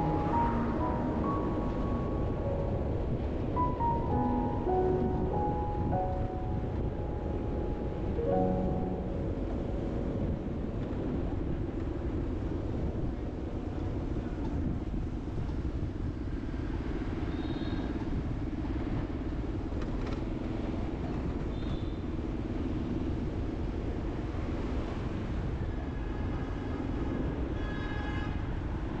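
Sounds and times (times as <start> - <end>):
vehicle road rumble: 0.0 - 27.7.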